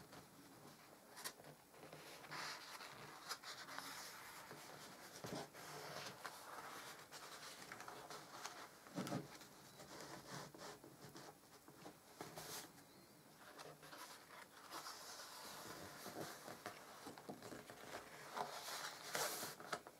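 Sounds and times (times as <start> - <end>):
photo album pages rustling: 0.0 - 10.6, 13.4 - 19.9.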